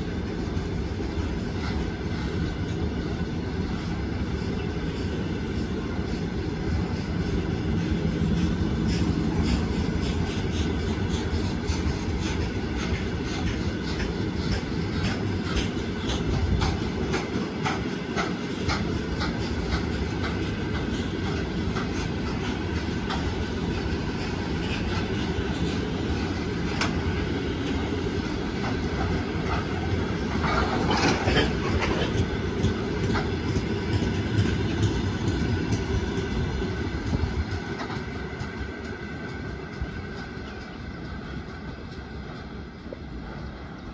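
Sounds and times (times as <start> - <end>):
freight train rolling past: 0.0 - 43.9
wheels clacking on rail joints: 0.1 - 43.9.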